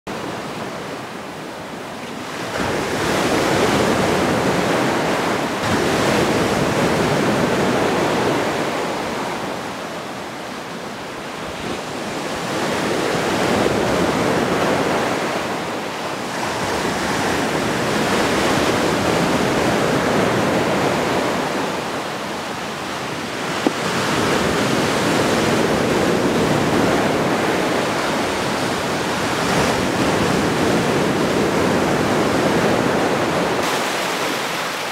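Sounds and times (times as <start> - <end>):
sea surf: 0.1 - 34.9
wind: 0.1 - 34.9.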